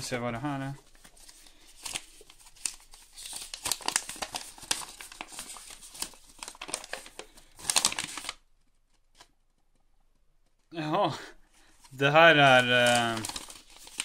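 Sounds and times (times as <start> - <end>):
paper crinkling and rustling: 0.5 - 9.8, 11.6 - 14.0.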